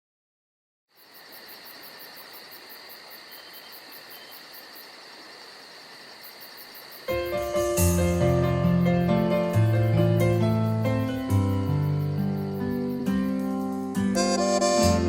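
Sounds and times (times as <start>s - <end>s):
crickets trilling: 0.9s - 15.0s.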